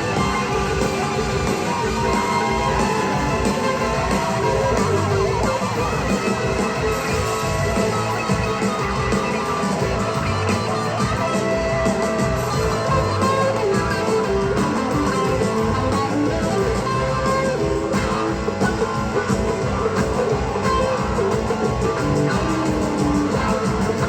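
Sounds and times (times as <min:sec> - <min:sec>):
electric guitar: 0:00.0 - 0:24.0
rock band playing: 0:00.0 - 0:24.0.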